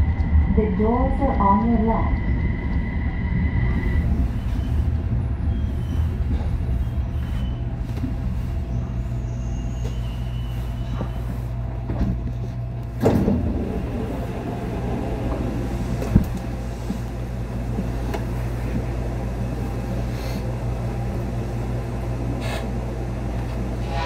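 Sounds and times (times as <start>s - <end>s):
metro train rumbling: 0.0s - 24.0s.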